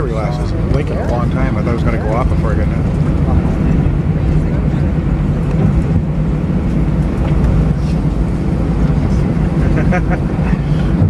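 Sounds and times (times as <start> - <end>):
airliner engine and wheel rumble: 0.0 - 11.0.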